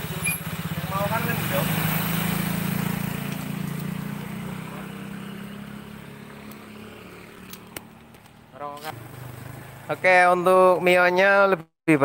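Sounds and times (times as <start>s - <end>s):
scooter engine riding past: 0.0s - 10.2s.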